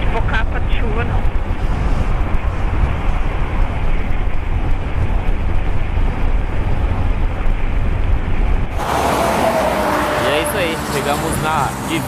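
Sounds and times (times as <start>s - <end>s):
motorcycle road noise: 0.0s - 12.0s
roadside background: 0.0s - 12.0s
wind rumble on microphone: 0.0s - 12.0s.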